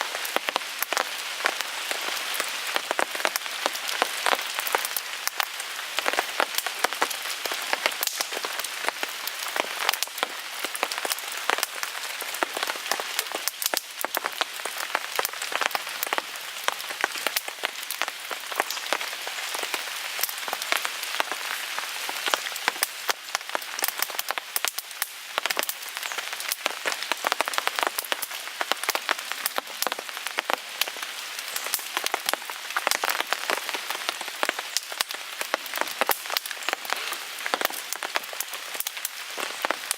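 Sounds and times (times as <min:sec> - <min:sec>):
rain falling on a tarp: 0:00.0 - 0:39.9.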